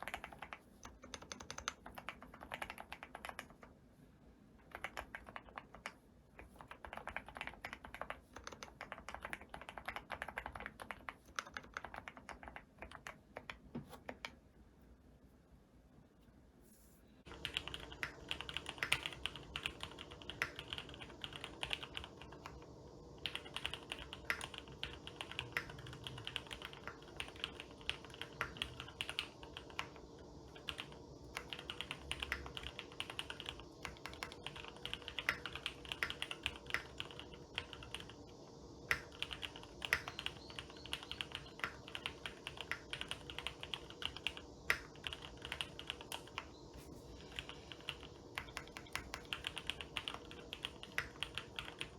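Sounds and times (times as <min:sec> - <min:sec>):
mechanical keyboard typing: 0:00.0 - 0:03.7, 0:04.6 - 0:14.4, 0:17.3 - 0:51.9.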